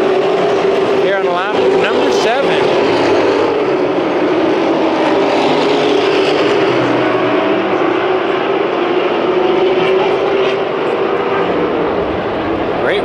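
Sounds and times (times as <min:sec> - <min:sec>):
race truck engines roaring: 0:00.0 - 0:13.0.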